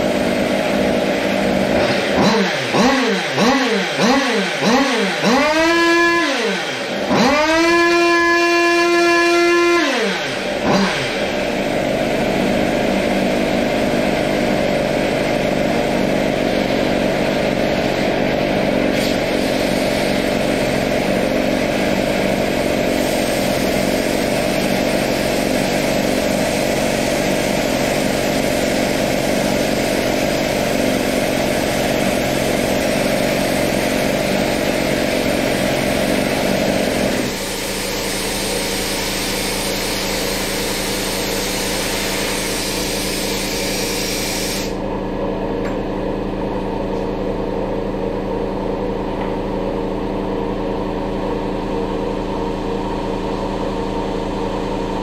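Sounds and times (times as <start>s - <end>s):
two-stroke engine revving: 0.0s - 44.8s.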